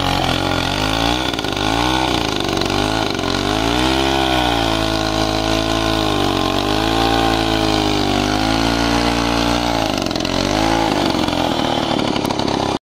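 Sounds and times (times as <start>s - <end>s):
motorcycle engine revving: 0.0s - 12.8s.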